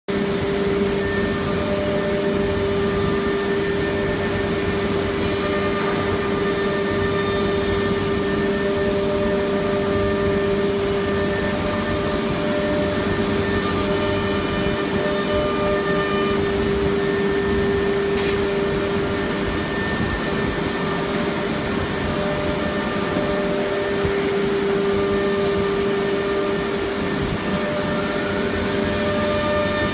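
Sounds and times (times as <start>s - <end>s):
cnc router whining: 0.1s - 29.9s.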